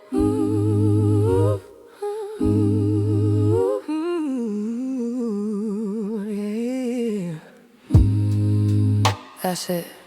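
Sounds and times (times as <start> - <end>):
hummed vocal with vibrato: 0.0 - 9.6.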